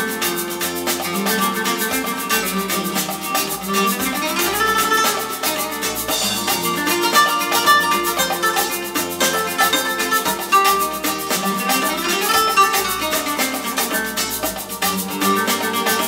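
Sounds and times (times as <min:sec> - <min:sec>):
music over loudspeakers: 0:00.0 - 0:16.0.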